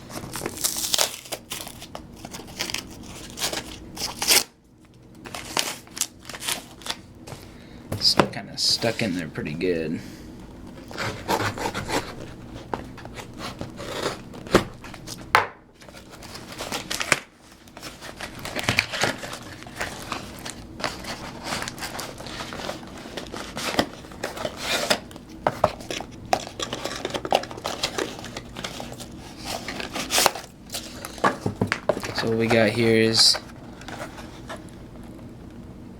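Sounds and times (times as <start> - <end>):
packaging crinkling and rustling: 0.0 - 9.2, 10.6 - 35.3.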